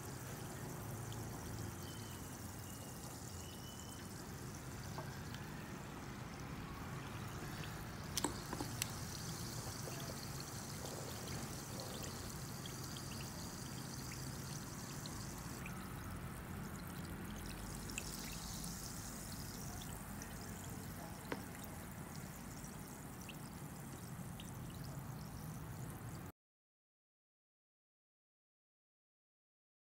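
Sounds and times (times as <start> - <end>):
sparkling water pouring and fizzing: 0.0 - 26.3.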